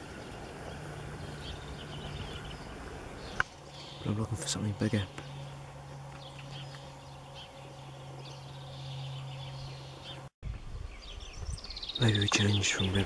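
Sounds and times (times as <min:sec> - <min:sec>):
steady low hum: 0:00.0 - 0:13.0
faint bird chirps: 0:00.1 - 0:13.0.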